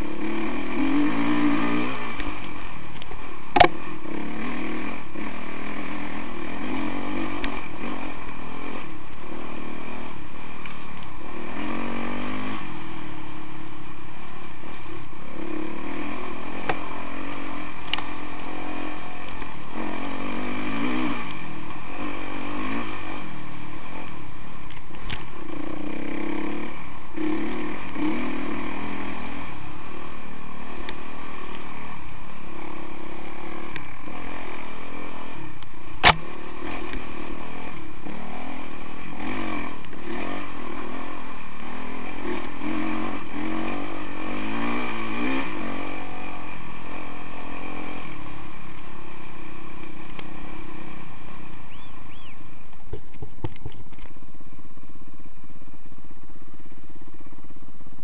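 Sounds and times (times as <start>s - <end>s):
dirt bike engine revving: 0.0s - 52.8s.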